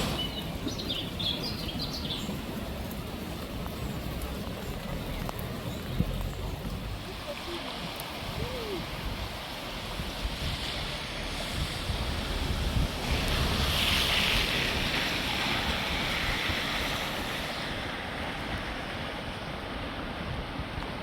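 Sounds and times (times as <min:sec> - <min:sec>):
stream water rushing: 0:00.0 - 0:21.0
wind noise on microphone: 0:00.0 - 0:21.0.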